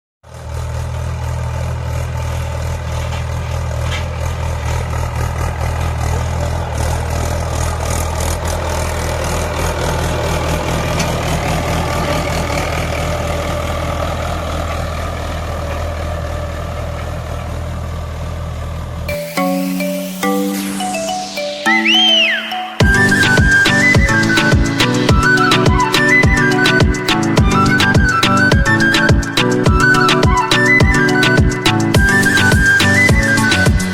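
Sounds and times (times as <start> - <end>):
tractor diesel engine running: 0.2 - 19.1, 22.8 - 33.9.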